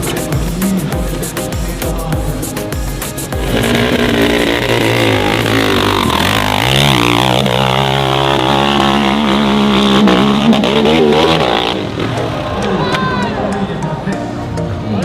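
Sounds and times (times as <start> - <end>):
dirt bike engine at high revs: 0.0 - 12.8.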